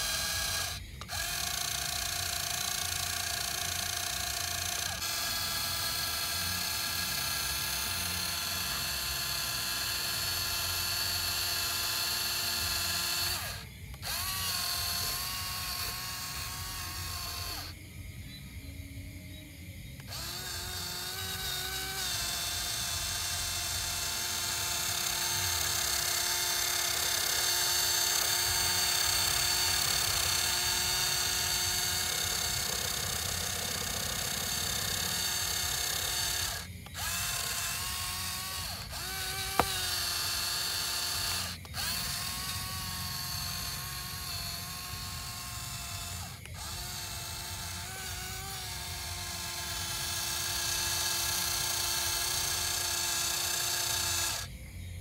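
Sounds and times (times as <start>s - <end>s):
toy electric motor whining: 0.0s - 18.8s, 19.4s - 55.0s.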